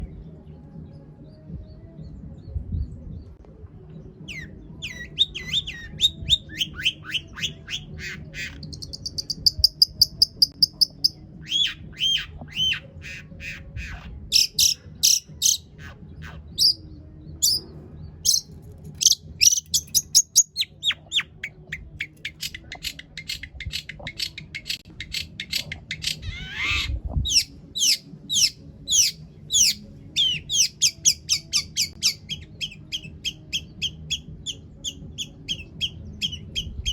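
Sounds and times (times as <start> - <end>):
shrike singing: 4.3 - 16.8, 17.4 - 36.9.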